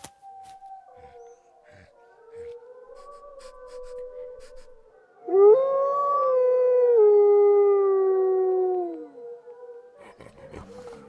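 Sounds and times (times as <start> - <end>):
wolf-like howl: 0.2 - 11.0.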